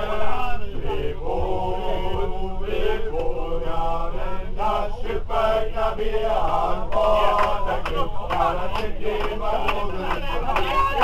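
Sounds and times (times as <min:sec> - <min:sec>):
low steady rumble: 0:00.0 - 0:11.0
men singing a chant: 0:00.0 - 0:11.0.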